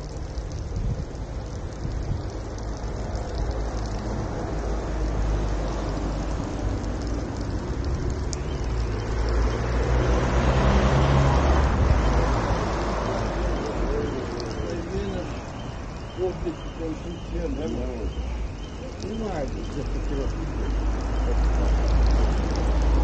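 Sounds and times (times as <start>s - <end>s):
car passing: 3.2s - 23.0s.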